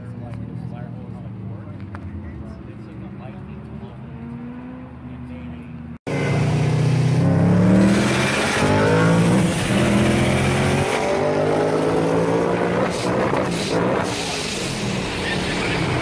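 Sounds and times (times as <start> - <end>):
car engine revving at full throttle: 0.2 - 16.0.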